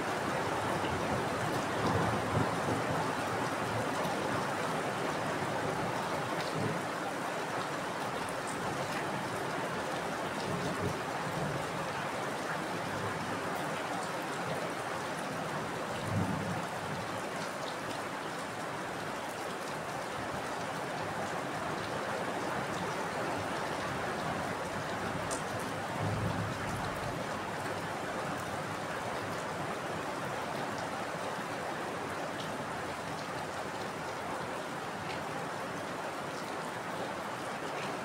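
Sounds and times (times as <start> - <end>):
heavy rain: 0.0 - 38.0.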